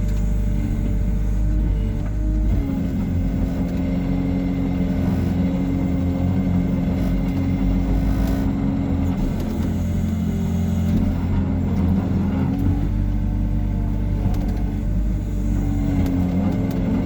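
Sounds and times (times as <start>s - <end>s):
diesel excavator engine running: 0.0s - 17.0s.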